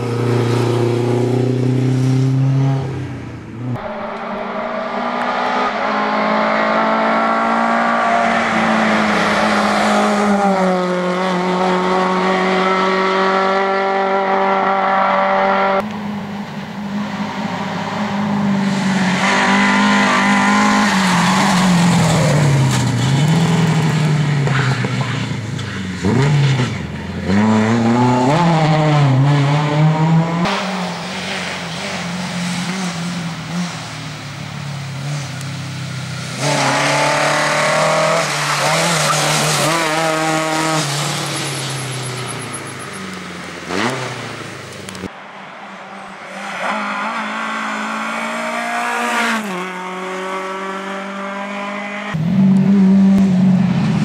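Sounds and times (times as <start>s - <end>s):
rally car engine revving: 0.0s - 34.0s, 36.2s - 45.1s, 46.2s - 54.0s.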